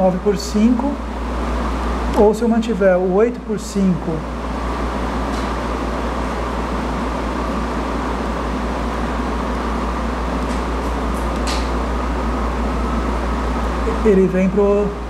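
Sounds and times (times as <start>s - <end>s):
low drone with hiss: 0.0s - 10.4s, 11.6s - 15.0s.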